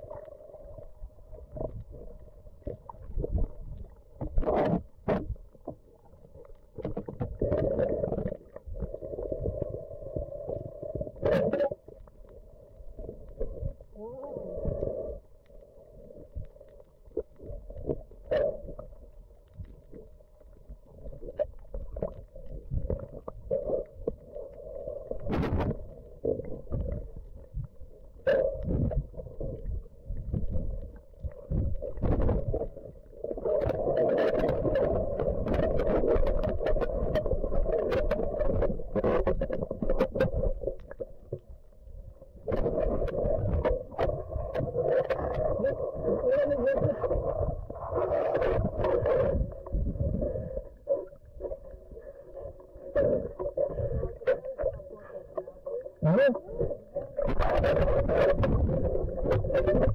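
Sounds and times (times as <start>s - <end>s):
underwater sloshing and rumbling: 0.0s - 59.9s.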